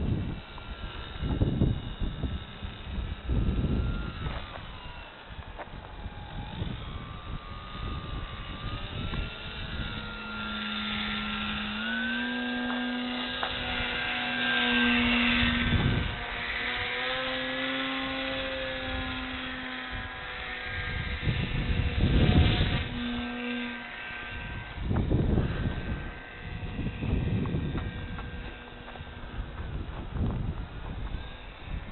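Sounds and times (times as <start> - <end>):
model airplane electric motor: 0.0 - 31.9
wind buffeting microphone: 0.0 - 31.9.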